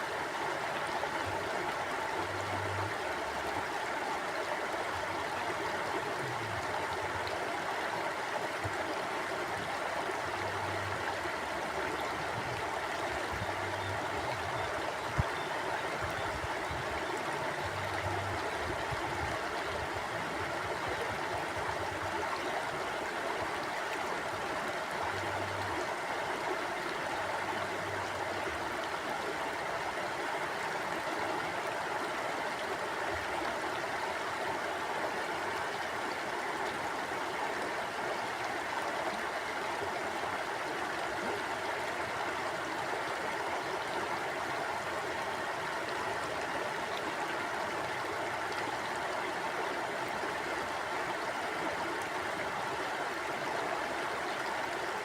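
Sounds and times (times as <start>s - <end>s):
mountain stream flowing: 0.0s - 55.0s.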